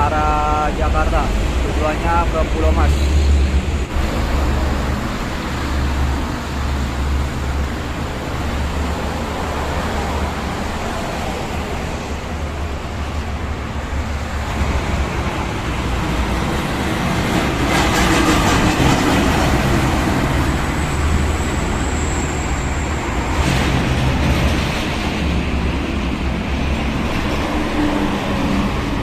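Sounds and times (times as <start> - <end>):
heavy vehicle passing close: 0.0 - 29.0
highway traffic noise: 0.0 - 29.0.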